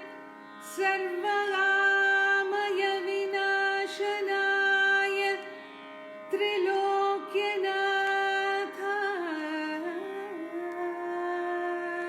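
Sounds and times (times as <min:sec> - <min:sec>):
woman singing: 0:00.7 - 0:05.4, 0:06.3 - 0:12.0.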